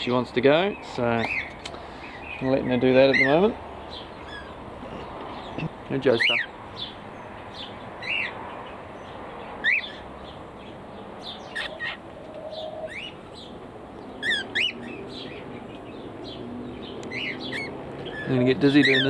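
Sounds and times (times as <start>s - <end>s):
birds chirping: 0.0s - 19.0s
faint bird twittering: 0.7s - 19.0s.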